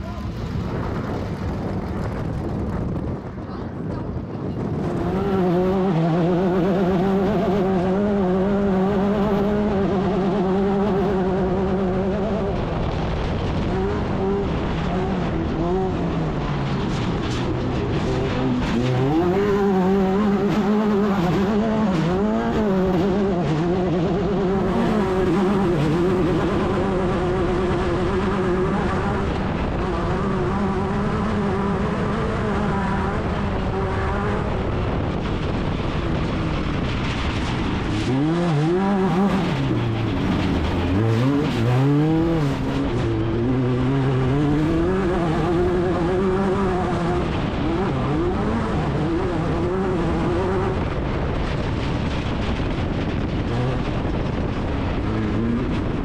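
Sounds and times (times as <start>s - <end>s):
race car engine revving: 4.5s - 56.0s.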